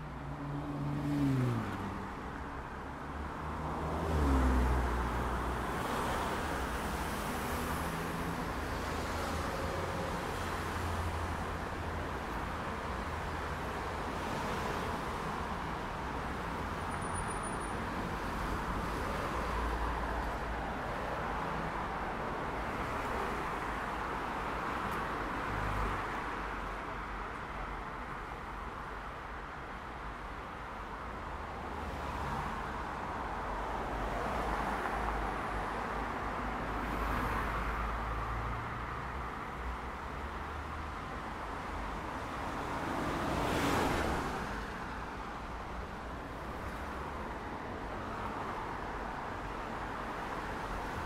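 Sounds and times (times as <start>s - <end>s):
cars passing on road: 0.0s - 51.0s.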